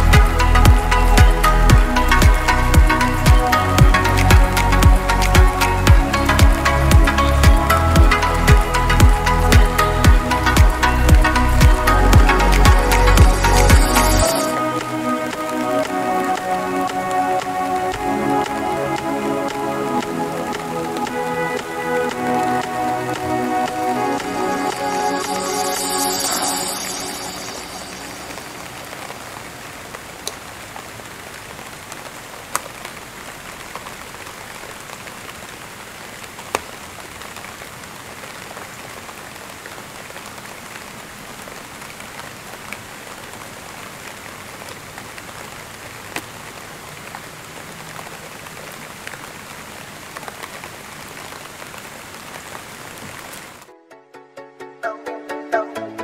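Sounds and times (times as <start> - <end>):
steady rain hiss: 0.0 - 53.7.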